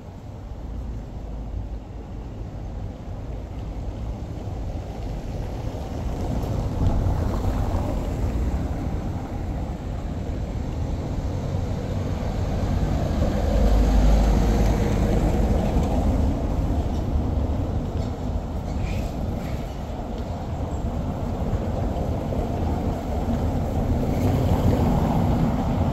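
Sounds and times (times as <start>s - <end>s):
low street rumble: 0.0s - 25.9s.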